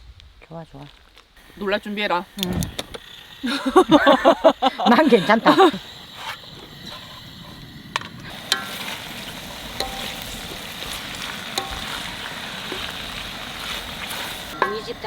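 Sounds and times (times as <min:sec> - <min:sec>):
chicken sizzling in a hot pan: 0:01.4 - 0:15.0.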